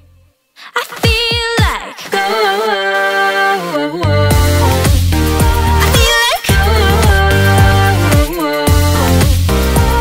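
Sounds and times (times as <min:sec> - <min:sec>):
pop music with deep bass: 0:00.8 - 0:10.0.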